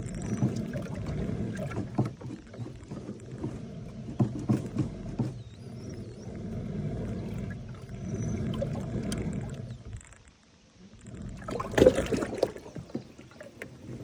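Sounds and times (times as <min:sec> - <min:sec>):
water sloshing: 0:00.0 - 0:14.0.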